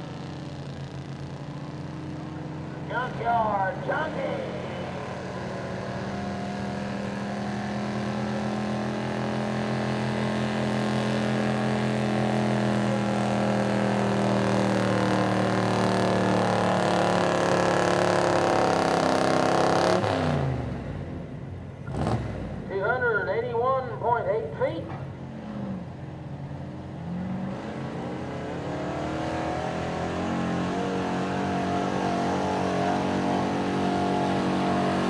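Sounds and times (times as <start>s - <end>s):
truck engine running at high revs: 0.0s - 35.0s.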